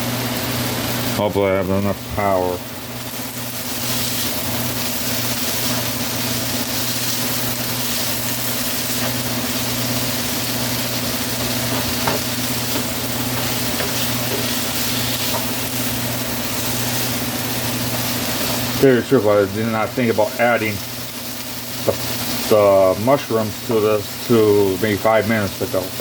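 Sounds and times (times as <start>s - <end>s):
steady low hum: 0.0s - 24.4s
vegetables sizzling in a frying pan: 0.0s - 26.0s.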